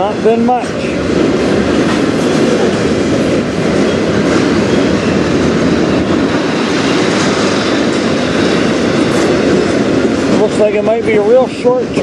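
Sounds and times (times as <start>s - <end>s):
steel wheels running on rails: 0.0s - 12.0s.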